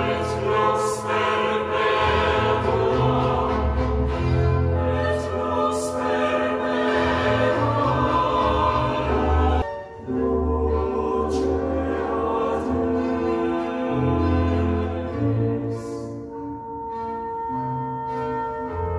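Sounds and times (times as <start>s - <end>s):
choral music with deep bass: 0.0s - 18.9s.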